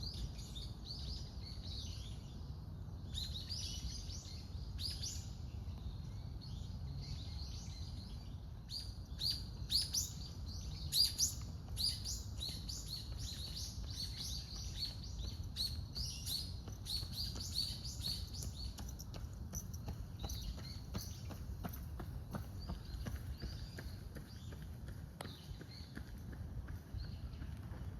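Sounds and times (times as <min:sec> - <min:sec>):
birds chirping: 0:03.1 - 0:27.9.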